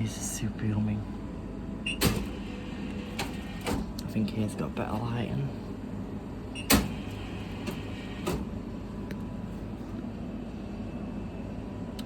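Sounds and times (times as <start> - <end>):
vending machine hum: 0.0 - 12.0.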